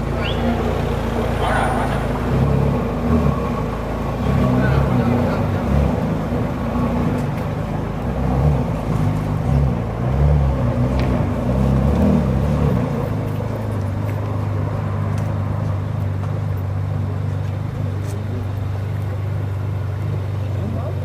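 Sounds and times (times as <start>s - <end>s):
car engine idling: 0.0s - 10.1s, 10.7s - 21.0s.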